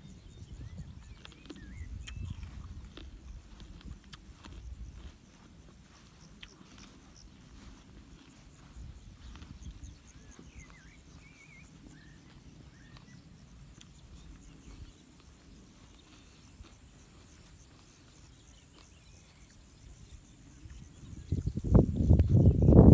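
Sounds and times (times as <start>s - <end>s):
faint high chirping: 0.0s - 3.6s, 4.3s - 22.9s
low wind rumble: 0.0s - 17.4s, 19.6s - 22.9s.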